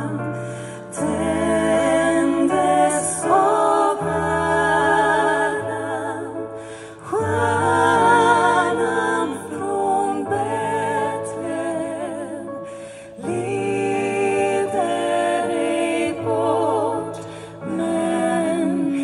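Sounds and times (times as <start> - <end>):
women singing in harmony: 0.0 - 19.0.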